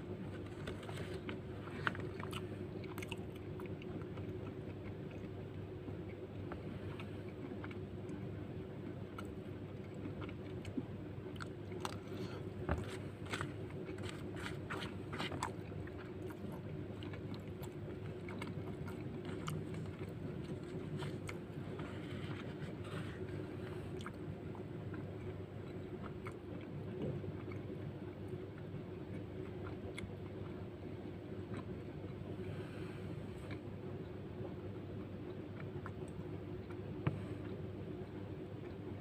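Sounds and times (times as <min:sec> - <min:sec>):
steady low hum: 0:00.0 - 0:39.0
person chewing: 0:00.2 - 0:30.6, 0:31.4 - 0:33.6.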